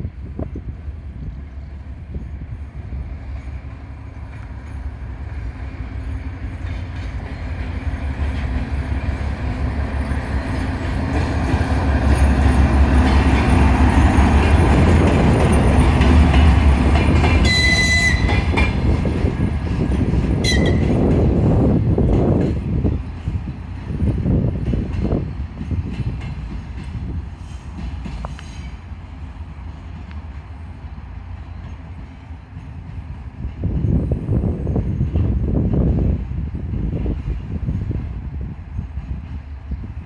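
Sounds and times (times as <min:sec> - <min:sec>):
locomotive engine rumble: 0:00.0 - 0:40.0.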